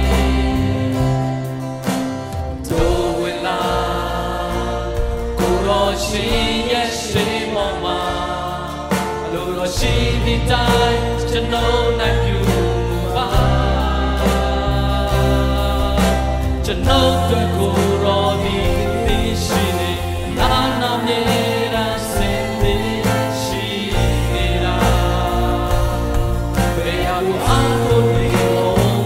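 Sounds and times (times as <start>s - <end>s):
band with keyboard and guitars: 0.0s - 29.0s
drum hits: 0.0s - 29.0s
group singing worship song: 0.0s - 29.0s.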